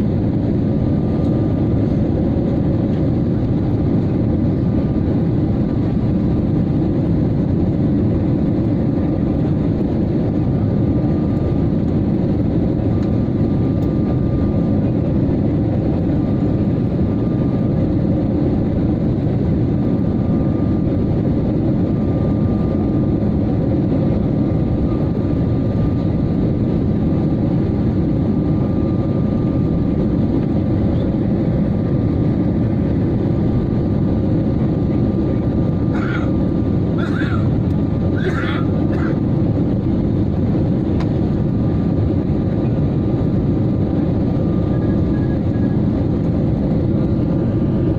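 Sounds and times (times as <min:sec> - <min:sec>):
airliner cabin engine rumble: 0:00.0 - 0:47.9.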